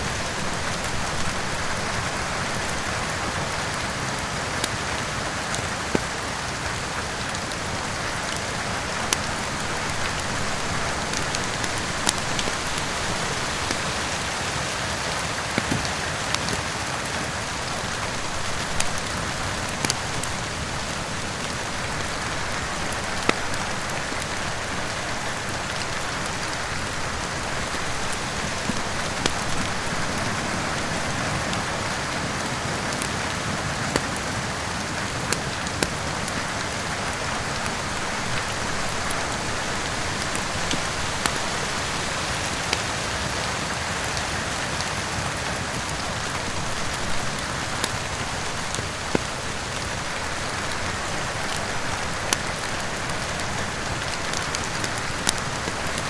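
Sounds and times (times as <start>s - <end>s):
heavy rain: 0.0s - 56.0s
wood fire crackling and popping: 0.0s - 56.0s.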